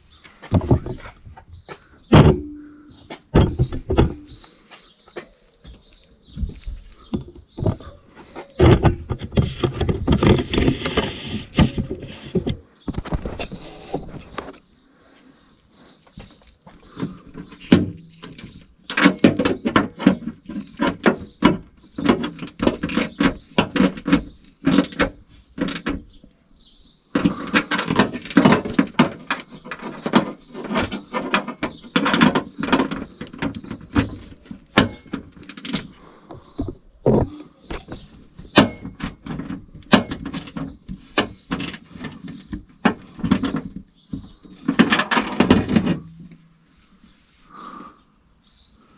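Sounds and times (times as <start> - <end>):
clicks and rattles of car parts: 0.2 - 4.5, 5.1 - 14.7, 16.1 - 26.4, 27.1 - 46.6.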